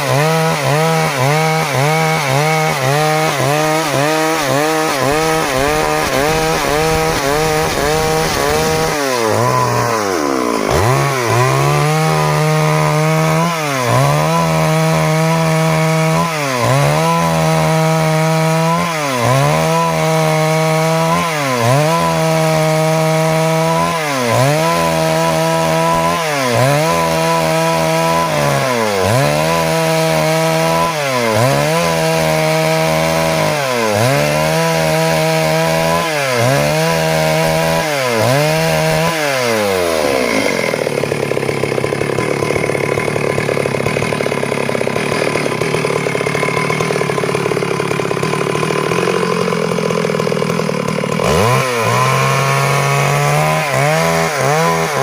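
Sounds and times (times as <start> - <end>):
chainsaw sawing wood: 0.0 - 55.0.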